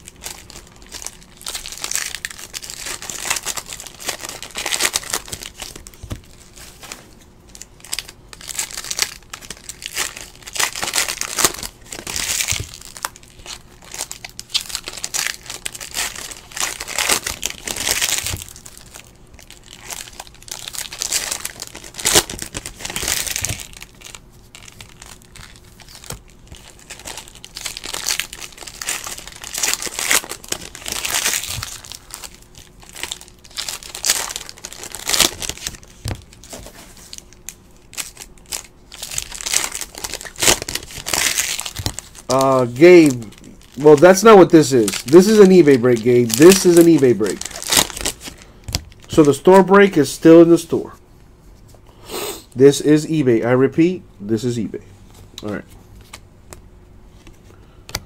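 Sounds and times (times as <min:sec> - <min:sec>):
foil wrappers tearing and crinkling: 0:00.0 - 0:50.0.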